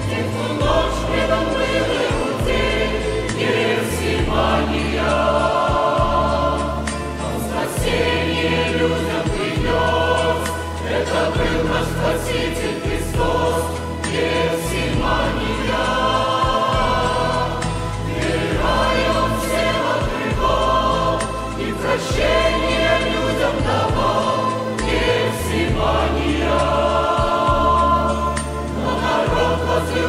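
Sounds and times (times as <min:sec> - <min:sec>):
choir singing a slow hymn: 0:00.0 - 0:30.0.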